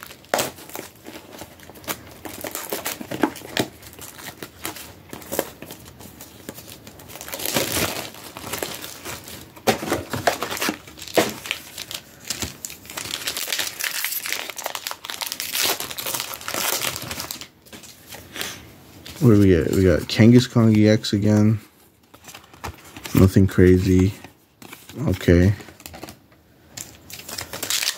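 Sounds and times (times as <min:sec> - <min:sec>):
card packaging crinkling and tearing: 0:00.0 - 0:27.9.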